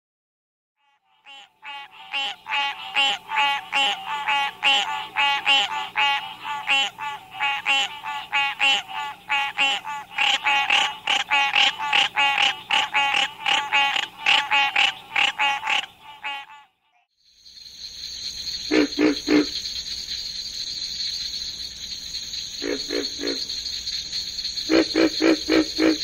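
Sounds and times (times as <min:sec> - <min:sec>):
treefrog honking calls: 0:00.8 - 0:17.0, 0:18.5 - 0:19.8, 0:22.5 - 0:26.0.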